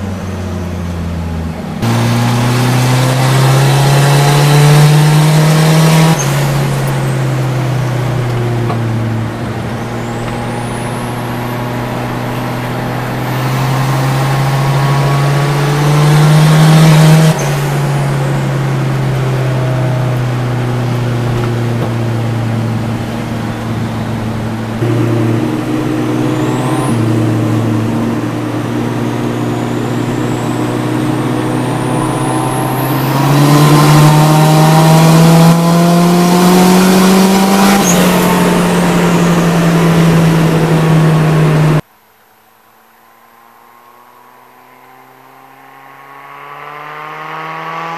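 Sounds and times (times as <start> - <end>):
car engine revving: 0.0 - 41.9, 43.0 - 47.9.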